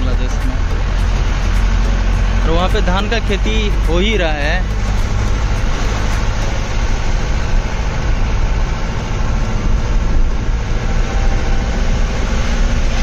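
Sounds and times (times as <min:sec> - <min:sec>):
car engine drone: 0:00.0 - 0:13.0
road rumble: 0:00.0 - 0:13.0.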